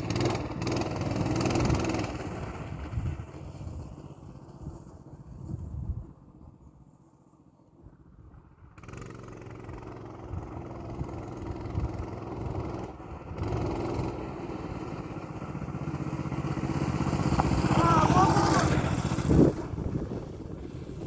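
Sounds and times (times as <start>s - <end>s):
mini bike engine under throttle: 0.0s - 5.3s, 8.6s - 21.0s.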